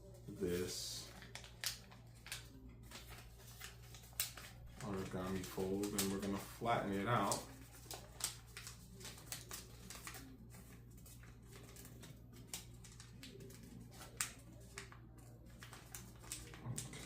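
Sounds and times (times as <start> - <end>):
paper crinkling: 0.0 - 17.0.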